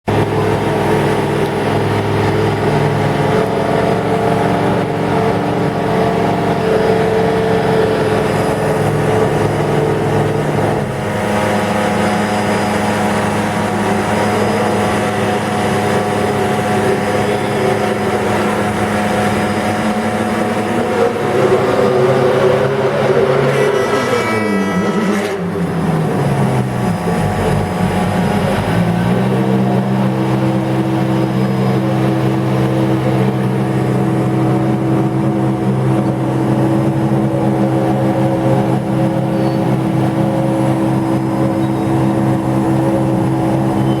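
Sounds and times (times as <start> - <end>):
race car engines running: 0.0 - 44.0.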